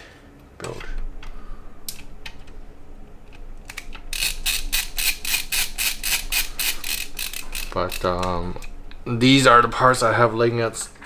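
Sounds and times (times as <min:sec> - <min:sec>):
sharp ratcheting clicks: 0:00.7 - 0:11.0.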